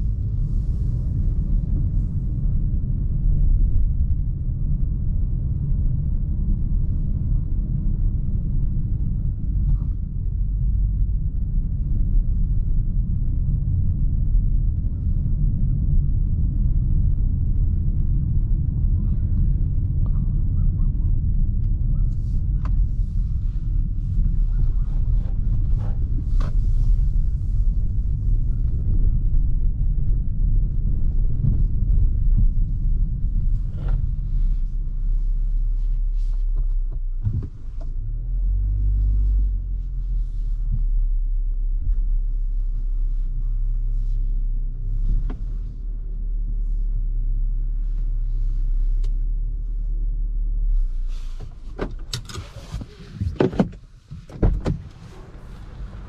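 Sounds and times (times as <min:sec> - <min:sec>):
engine and road noise rumble: 0:00.0 - 0:56.0.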